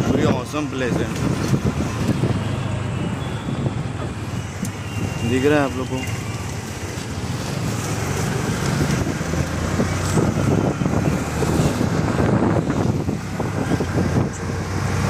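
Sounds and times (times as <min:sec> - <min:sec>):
road traffic noise: 0:00.0 - 0:15.0
wind buffeting microphone: 0:00.0 - 0:15.0.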